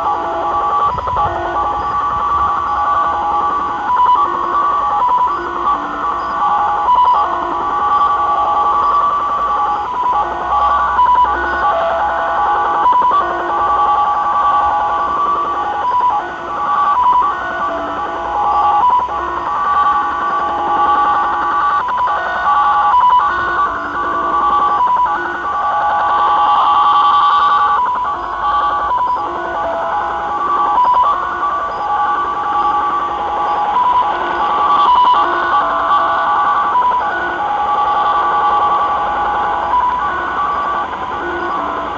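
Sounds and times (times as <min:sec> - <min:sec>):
radio static hiss: 0:00.0 - 0:41.9
warbling digital radio signal: 0:00.0 - 0:41.9.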